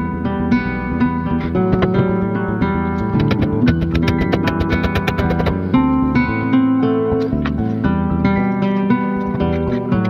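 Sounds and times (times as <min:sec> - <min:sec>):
plucked guitar music with bass: 0:00.0 - 0:10.0.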